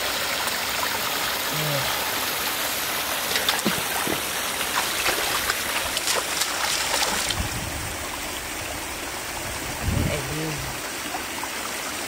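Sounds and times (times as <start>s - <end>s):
water pouring over rocks: 0.0s - 12.0s
water splashing: 0.0s - 12.0s.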